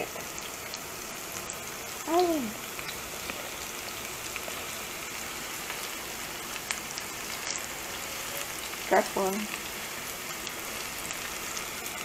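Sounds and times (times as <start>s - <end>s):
onion sizzling in butter: 0.0s - 12.0s.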